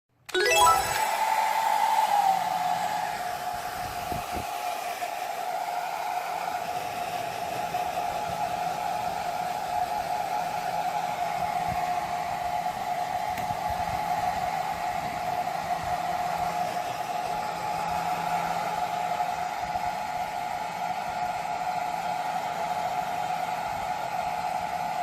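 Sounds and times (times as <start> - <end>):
hair dryer running: 0.4 - 25.0.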